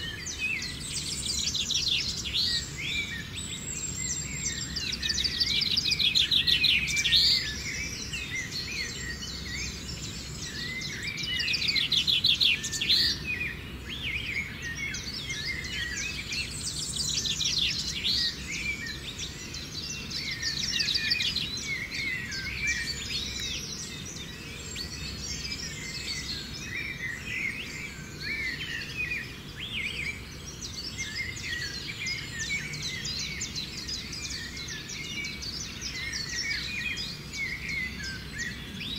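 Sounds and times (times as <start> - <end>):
forest birds chirping: 0.0 - 38.9.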